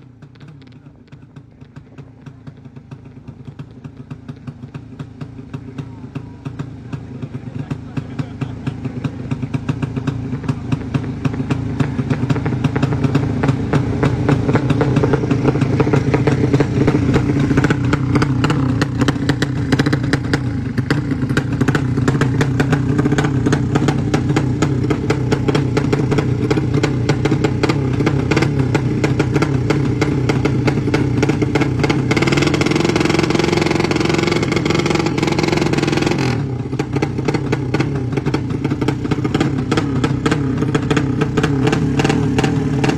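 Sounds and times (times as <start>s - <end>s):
racing motorcycle engine revving: 0.0s - 42.9s.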